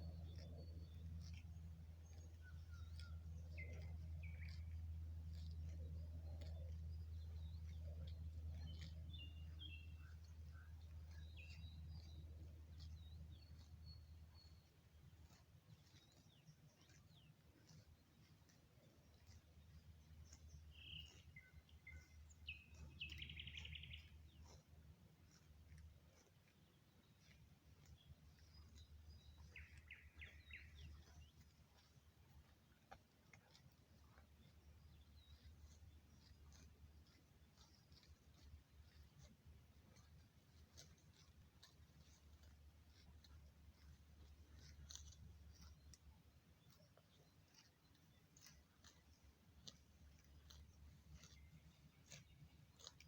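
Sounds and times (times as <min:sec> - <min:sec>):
low steady rumble: 0:00.0 - 0:53.0
small birds chirping: 0:00.0 - 0:53.0.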